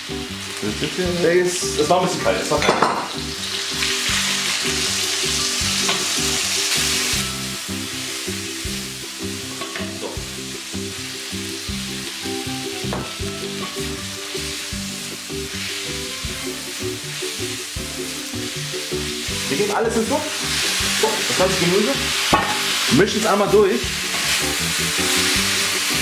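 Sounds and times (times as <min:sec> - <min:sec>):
chicken sizzling in hot oil: 0:00.0 - 0:26.0
quiet background music: 0:00.0 - 0:26.0.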